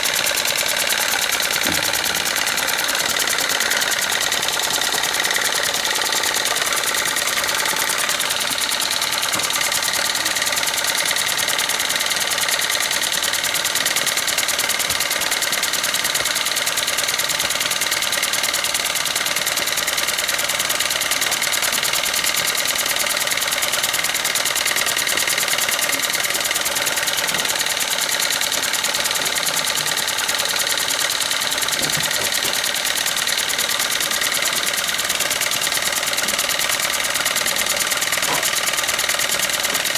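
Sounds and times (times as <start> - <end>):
model steam engines clattering: 0.0 - 39.9.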